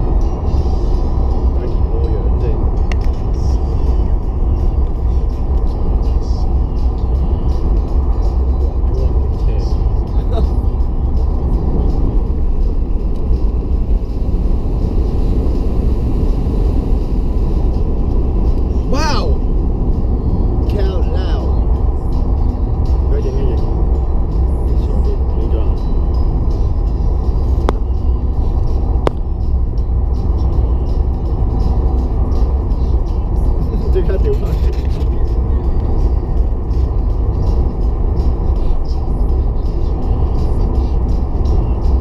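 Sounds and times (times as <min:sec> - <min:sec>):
car driving on road: 0:00.0 - 0:42.0.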